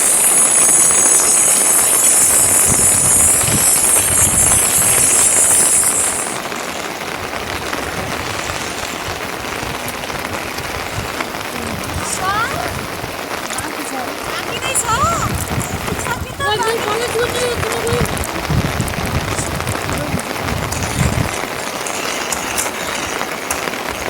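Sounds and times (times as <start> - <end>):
loud high hiss: 0.0 - 24.0
rain falling: 0.0 - 24.0.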